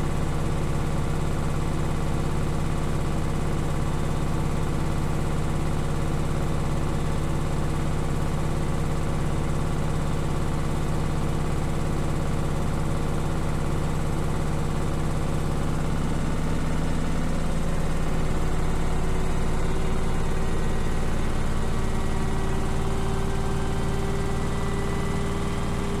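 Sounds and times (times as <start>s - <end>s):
washing machine spinning hum: 0.0s - 26.0s.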